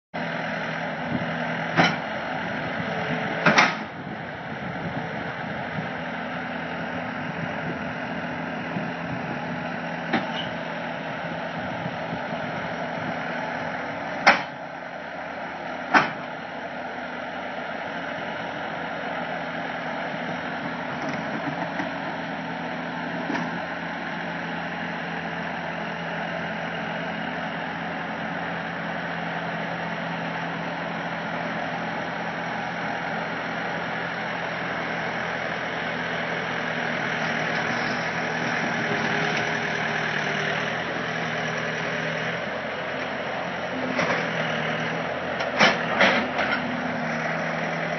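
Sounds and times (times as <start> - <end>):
loader engine running: 0.2 - 47.9.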